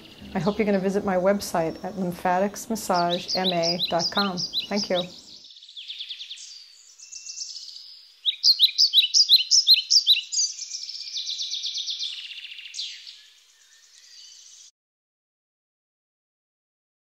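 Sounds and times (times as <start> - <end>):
songbird singing: 0.0 - 14.7.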